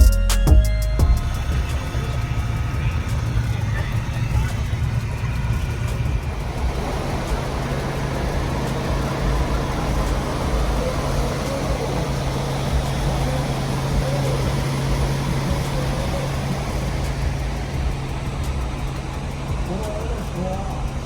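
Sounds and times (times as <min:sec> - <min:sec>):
outdoor noise: 0:00.3 - 0:21.0
vehicle engine running: 0:01.0 - 0:21.0.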